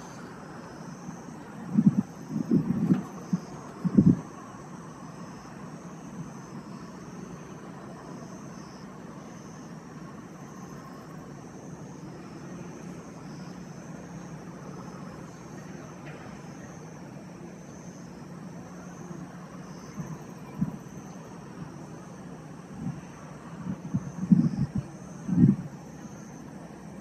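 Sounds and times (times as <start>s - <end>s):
distant traffic rumble: 0.0s - 27.0s
faint high chirring pulses: 0.0s - 27.0s.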